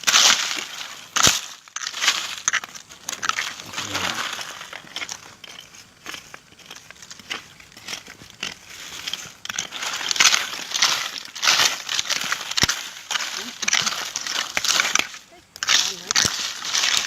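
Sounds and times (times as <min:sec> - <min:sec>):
dry material rustling and crackling: 0:00.0 - 0:17.0.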